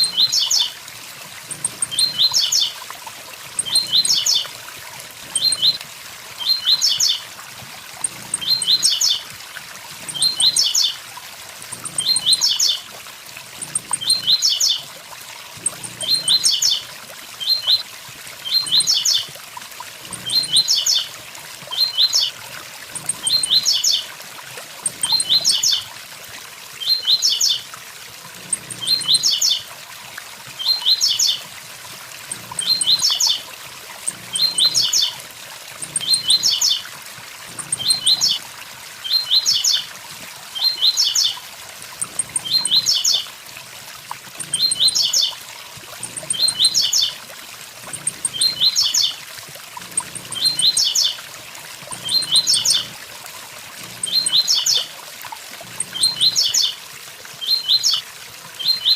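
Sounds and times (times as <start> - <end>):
waterfall hiss: 0.0 - 58.9.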